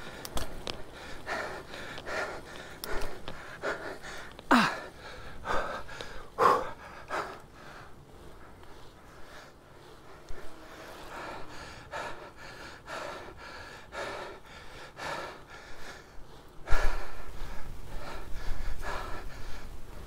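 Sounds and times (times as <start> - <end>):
wind rumble on microphone: 0.0 - 12.4, 15.5 - 20.0
man breathing hard: 0.0 - 20.0.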